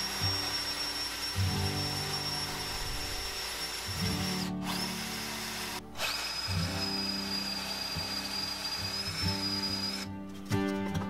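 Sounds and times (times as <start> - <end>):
cordless drill boring into wood: 0.0 - 10.1.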